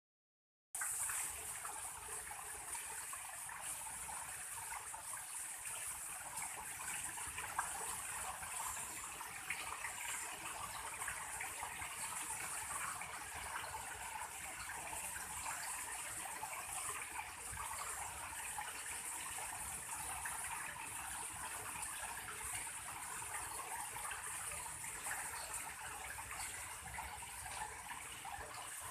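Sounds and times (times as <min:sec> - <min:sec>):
water pouring and splashing into pool: 0:00.8 - 0:28.9.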